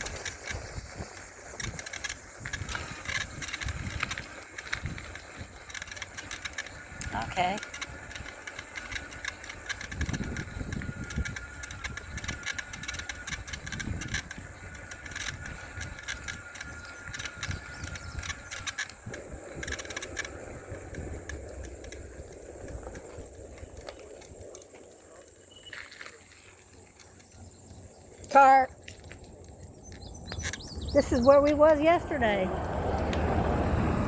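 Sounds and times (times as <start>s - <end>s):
wind rumble on microphone: 0.0s - 25.5s, 29.0s - 34.0s
bike rattles and clicks: 0.0s - 34.0s.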